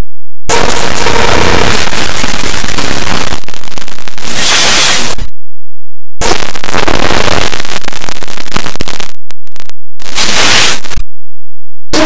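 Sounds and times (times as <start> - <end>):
harsh distorted noise: 0.5 - 5.4, 6.2 - 11.1.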